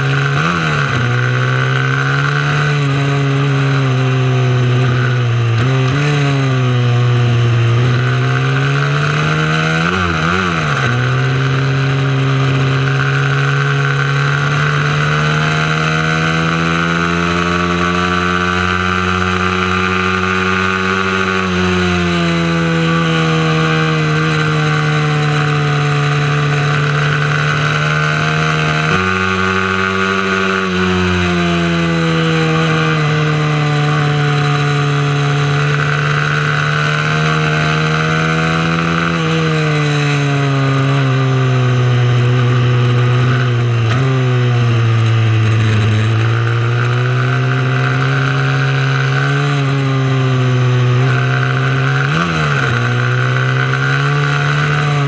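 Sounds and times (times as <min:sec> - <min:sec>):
mini motorcycle engine revving: 0:00.0 - 0:55.0.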